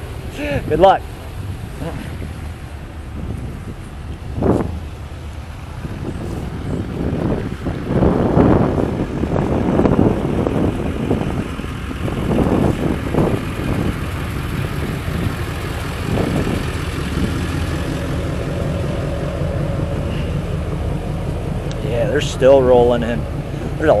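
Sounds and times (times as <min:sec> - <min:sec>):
car engines idling: 0:00.0 - 0:24.0
wind buffeting microphone: 0:00.0 - 0:24.0.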